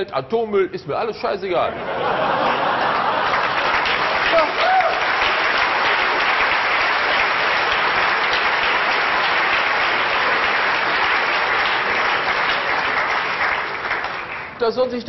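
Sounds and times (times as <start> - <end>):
audience applauding: 2.0 - 14.6.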